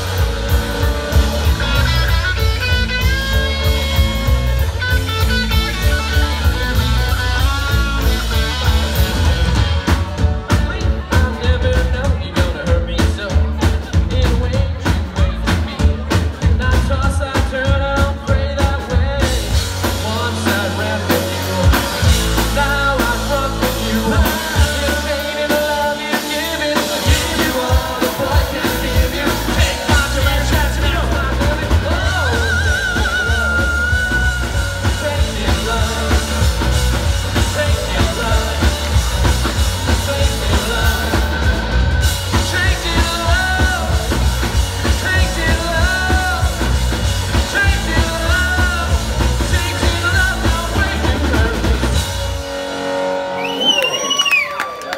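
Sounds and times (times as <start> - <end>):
drum kit beat: 0.0 - 52.6
bass guitar: 0.0 - 54.9
electric guitars: 0.0 - 54.9.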